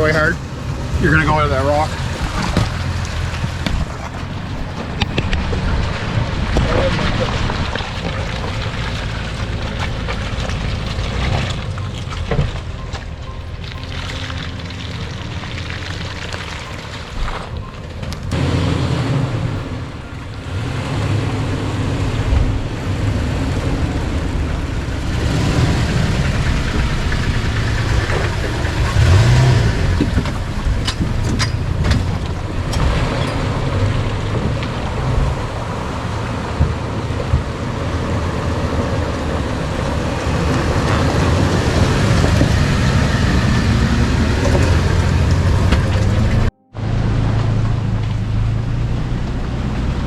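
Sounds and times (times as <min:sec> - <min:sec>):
off-road vehicle engine revving: 0:00.0 - 0:50.0.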